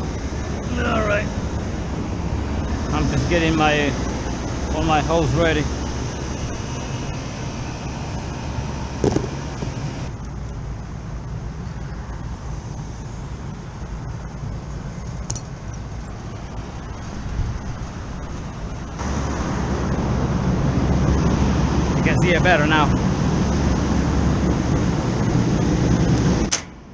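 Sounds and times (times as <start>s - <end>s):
low mechanical rumble and hum: 0.0s - 26.9s.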